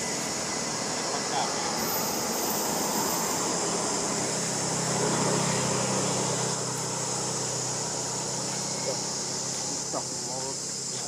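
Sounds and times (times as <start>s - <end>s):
constant high hiss: 0.0s - 11.0s.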